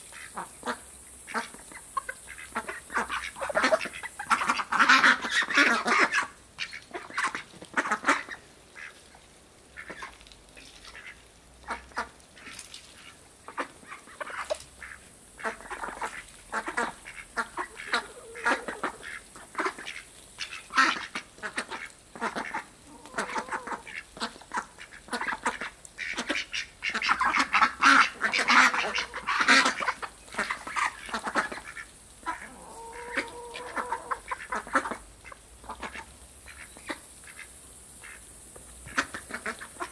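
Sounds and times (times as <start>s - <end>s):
ducks quacking: 0.0s - 38.2s, 38.8s - 39.9s.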